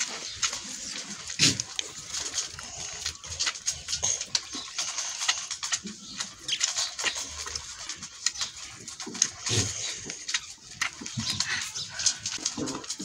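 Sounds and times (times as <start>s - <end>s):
calf sucking clicks and smacks: 0.0s - 13.0s.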